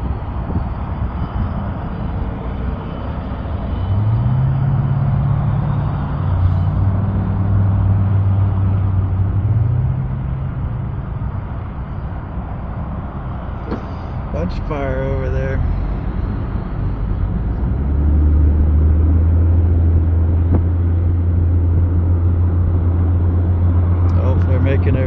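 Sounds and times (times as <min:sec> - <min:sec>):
low engine drone: 0:00.0 - 0:25.0
road and engine noise: 0:00.0 - 0:25.0.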